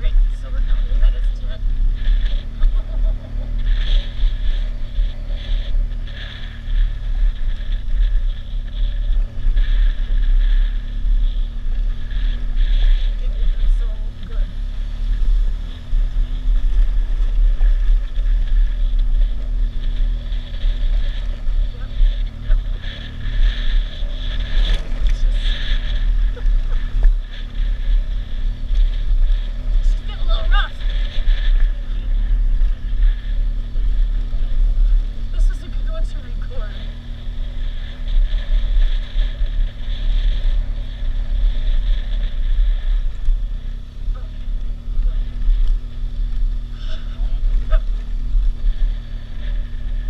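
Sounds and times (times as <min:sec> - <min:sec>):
motorcycle engine pulling: 0:00.0 - 0:50.0
tyres on gravel: 0:00.0 - 0:50.0
wind noise on microphone: 0:00.0 - 0:50.0.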